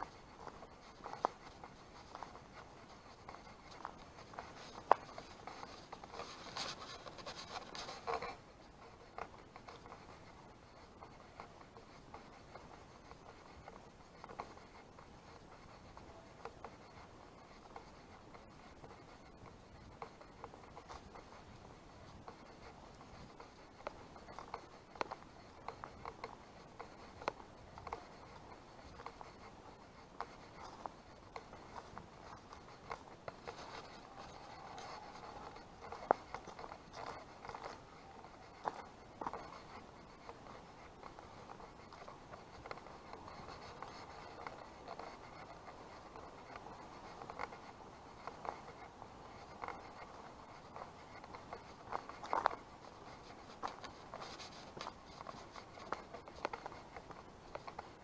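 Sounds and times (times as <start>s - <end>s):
scratchy noise: 0.0s - 58.0s.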